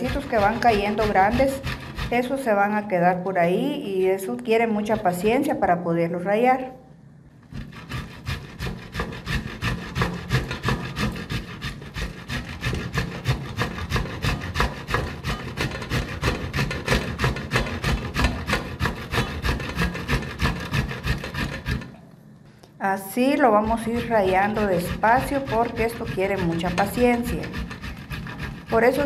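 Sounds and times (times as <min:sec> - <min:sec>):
coconut scraping on metal grater: 0:00.0 - 0:02.6, 0:04.8 - 0:05.4, 0:07.4 - 0:22.0, 0:23.4 - 0:29.0.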